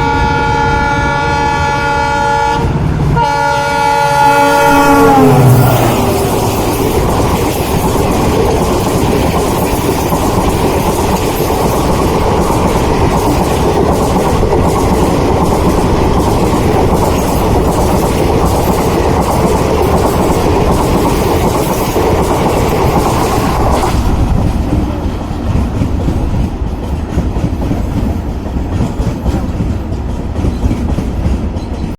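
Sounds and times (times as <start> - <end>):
train passing with rumble: 0.0 - 31.9
wheels clacking over rail joints: 5.6 - 31.9.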